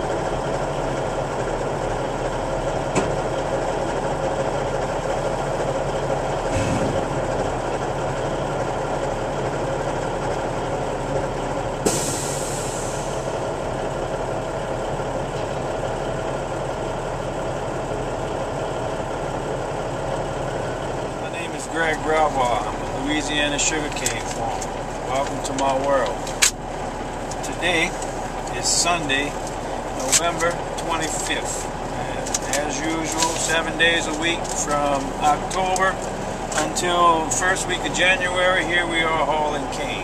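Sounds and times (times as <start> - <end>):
heavy machinery engine running: 0.0 - 40.0.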